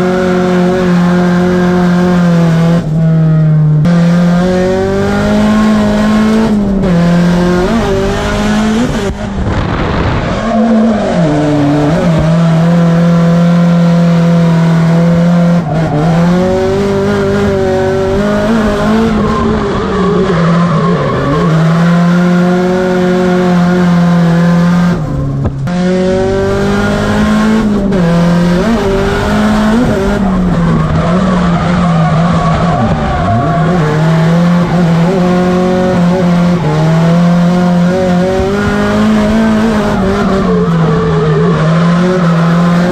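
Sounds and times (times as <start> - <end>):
car engine at high revs: 0.0 - 42.9.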